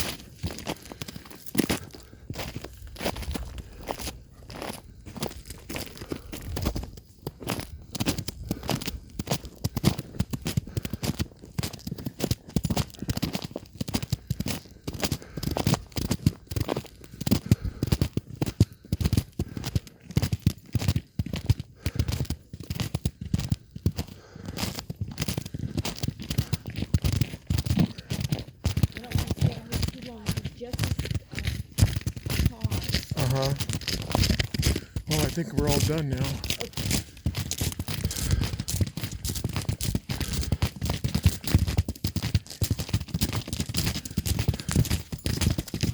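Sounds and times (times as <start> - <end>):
footsteps crunching on ice: 0.0 - 45.9.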